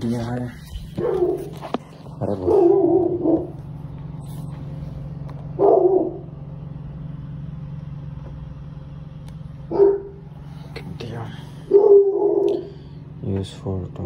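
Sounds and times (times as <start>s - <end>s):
car driving cabin hum: 0.0s - 12.6s.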